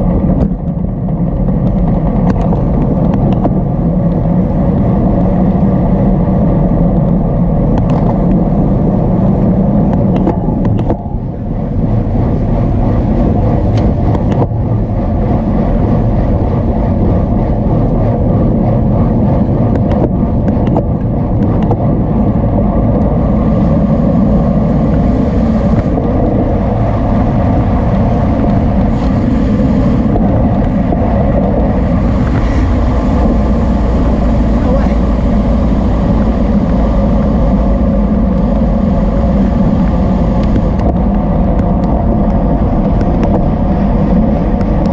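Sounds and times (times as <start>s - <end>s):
wind rushing on microphone: 0.0s - 44.9s.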